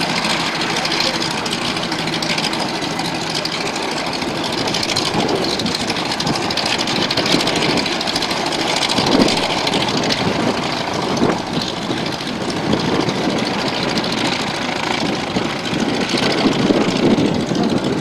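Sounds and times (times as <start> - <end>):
engine idling roughly: 0.0 - 18.0.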